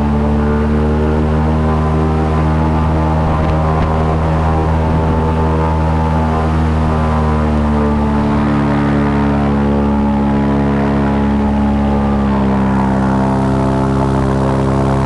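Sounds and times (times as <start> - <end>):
airboat engine drone: 0.0 - 15.0.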